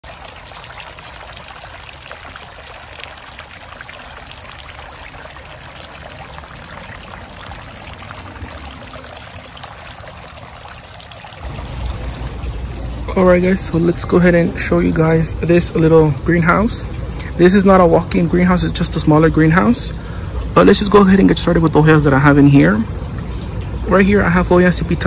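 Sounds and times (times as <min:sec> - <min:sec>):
fountain water splashing: 0:00.0 - 0:25.0.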